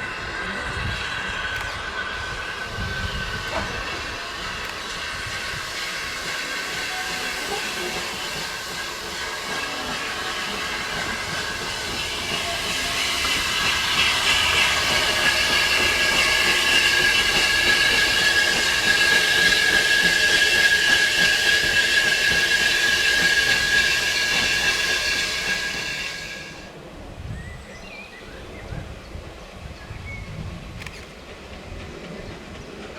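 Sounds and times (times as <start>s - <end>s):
steam locomotive hissing steam: 0.0s - 32.9s.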